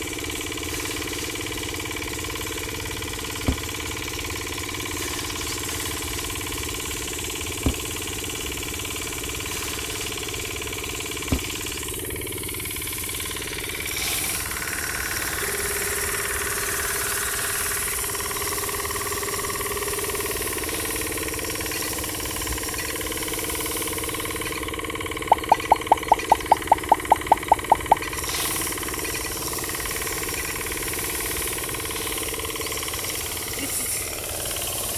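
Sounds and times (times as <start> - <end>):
small motor running with rattle: 0.0 - 25.1, 26.1 - 34.9.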